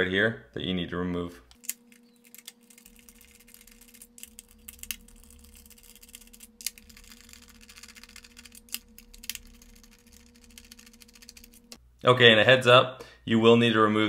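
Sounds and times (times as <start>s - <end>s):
steady faint hum: 0.0s - 14.0s.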